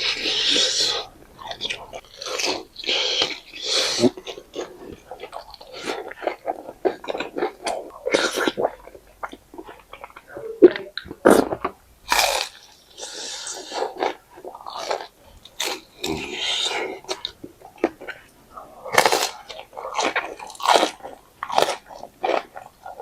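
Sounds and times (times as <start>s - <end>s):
chewing food: 0.0s - 23.0s.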